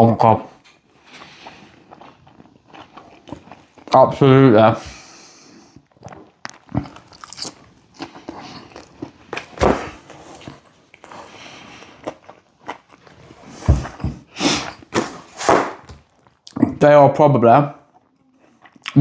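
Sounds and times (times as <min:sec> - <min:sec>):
person chewing crunchy food: 0:00.6 - 0:16.7, 0:17.8 - 0:19.0.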